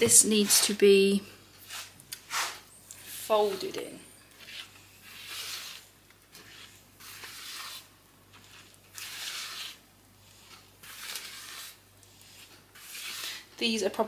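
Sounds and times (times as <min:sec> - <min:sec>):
spatula scraping batter in bowl: 0:01.6 - 0:14.0.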